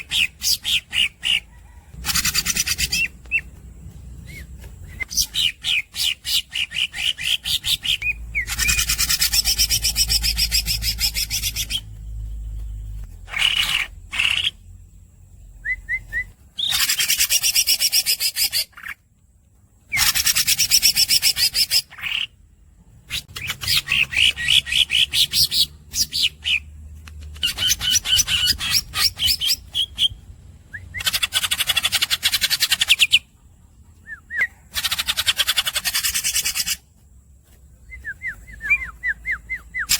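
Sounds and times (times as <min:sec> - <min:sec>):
bird singing rapid notes: 0:00.0 - 0:19.1, 0:19.8 - 0:39.9.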